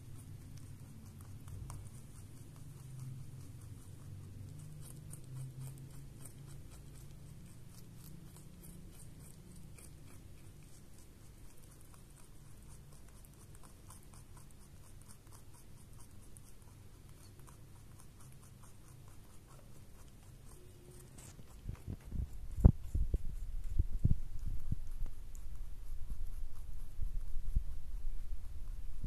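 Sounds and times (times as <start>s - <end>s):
low steady hum: 0.0s - 29.0s
rabbit chewing carrot: 0.0s - 29.0s.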